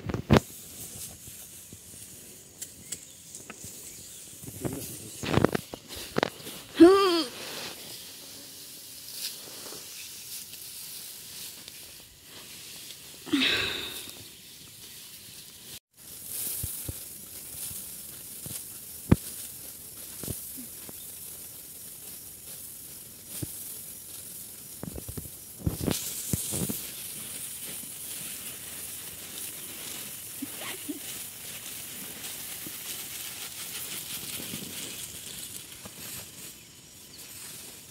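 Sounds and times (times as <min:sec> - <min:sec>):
grain rustling on a mat: 0:00.1 - 0:37.9
hiss of poured grain: 0:00.1 - 0:37.9.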